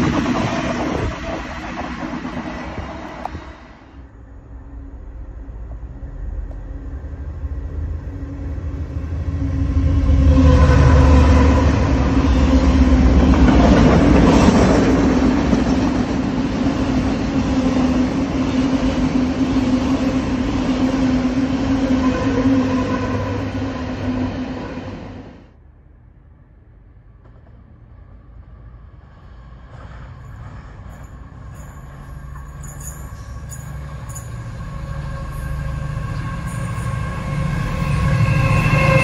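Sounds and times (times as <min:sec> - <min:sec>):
train passing close by: 0:00.0 - 0:39.0.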